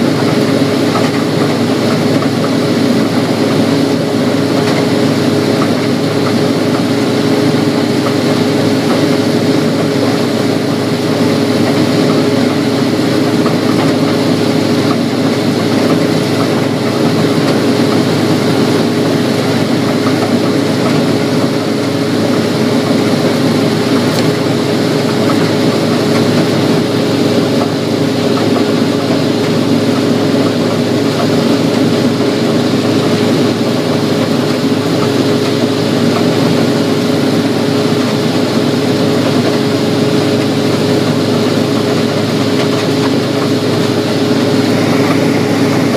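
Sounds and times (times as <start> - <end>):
combine harvester droning: 0.0 - 45.9.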